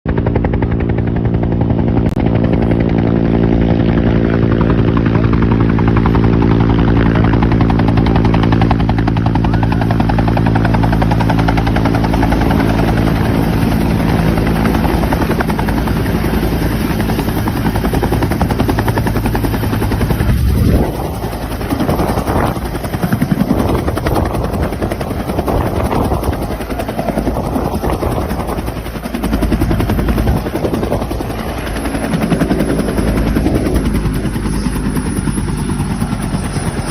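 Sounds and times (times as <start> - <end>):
helicopter rotor and engine: 0.1 - 36.9.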